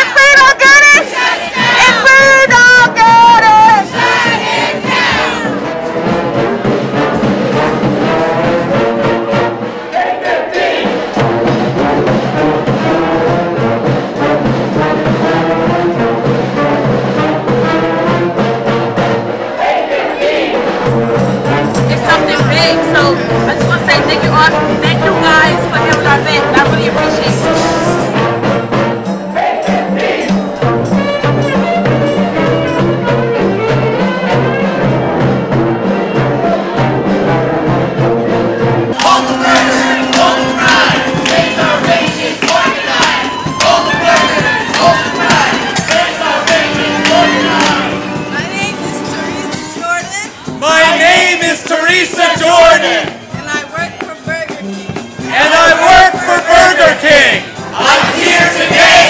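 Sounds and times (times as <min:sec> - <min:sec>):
brass band playing: 0:00.0 - 0:59.0
steady drum beat: 0:00.0 - 0:59.0
horn melodies: 0:01.8 - 0:09.7, 0:11.2 - 0:19.3, 0:20.2 - 0:59.0.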